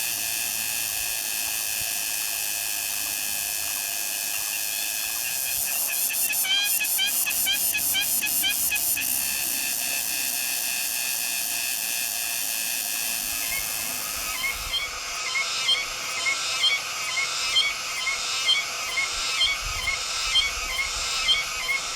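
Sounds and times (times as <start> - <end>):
insect chirps: 0.0 - 21.9
insects buzzing drone: 0.0 - 21.9.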